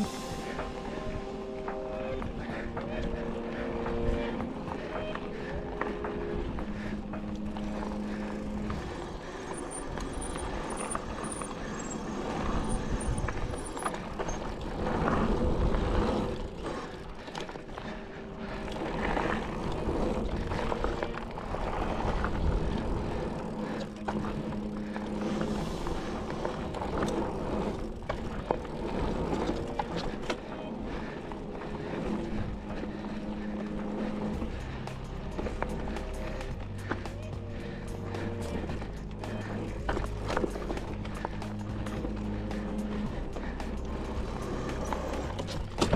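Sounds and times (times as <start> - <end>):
tyres and wind rushing: 0.0 - 45.9
bike rattling and clicking: 0.8 - 45.9.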